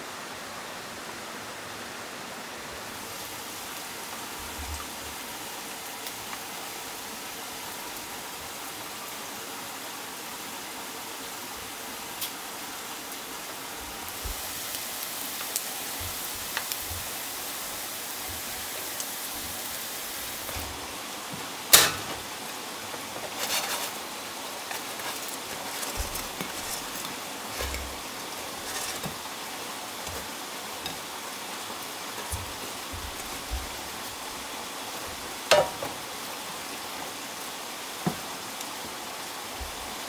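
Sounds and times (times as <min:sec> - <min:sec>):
food frying in a wok: 0:02.9 - 0:40.0.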